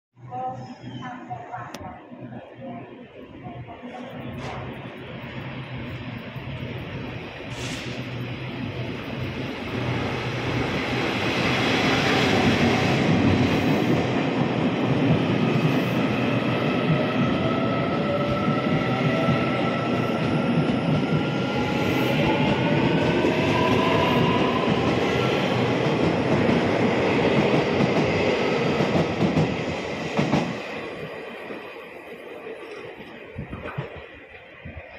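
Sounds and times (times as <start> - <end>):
train wheels rumbling on rails: 3.6 - 34.9.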